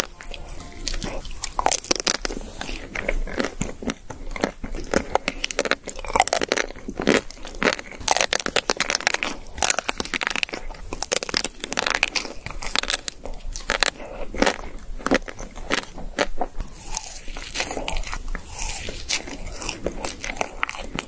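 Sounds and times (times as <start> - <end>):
chewing: 0.0 - 21.0
crackling bites into chocolate: 0.8 - 21.0.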